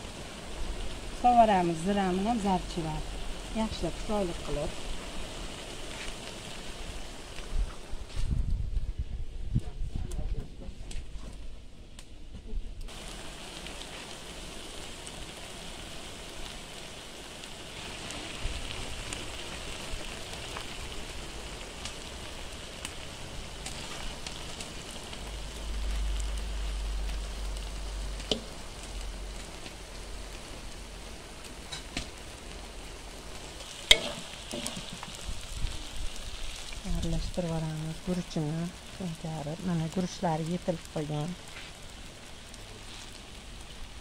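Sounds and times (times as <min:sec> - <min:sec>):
rice boiling with sizzling hiss: 0:00.0 - 0:44.0
wood fire crackles: 0:00.0 - 0:44.0.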